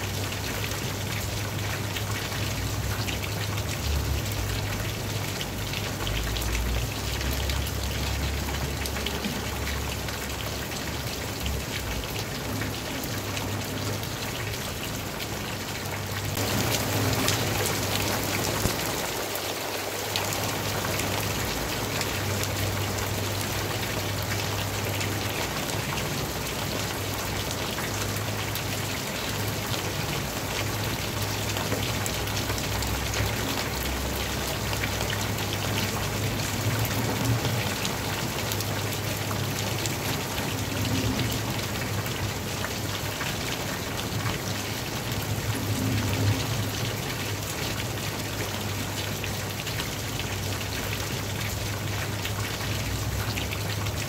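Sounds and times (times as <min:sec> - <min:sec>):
rain splashing on standing water: 0:00.0 - 0:54.0.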